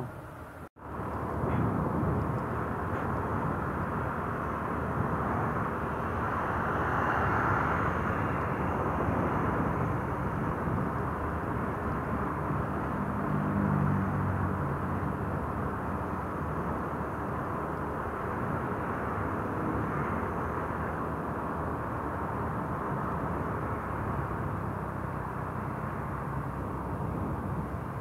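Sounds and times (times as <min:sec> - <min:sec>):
wind on microphone: 0:00.9 - 0:28.0.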